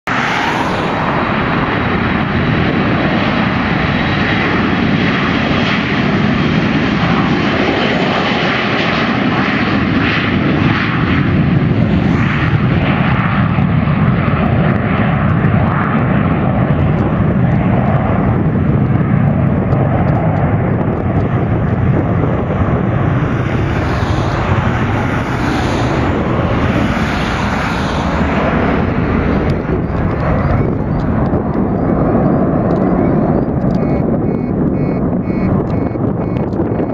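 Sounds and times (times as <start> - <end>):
jet engines at takeoff power: 0.1 - 36.9.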